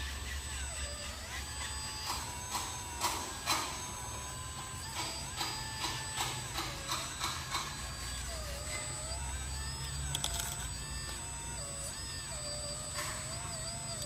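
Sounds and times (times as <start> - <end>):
toy excavator motors whirring: 0.0 - 14.0.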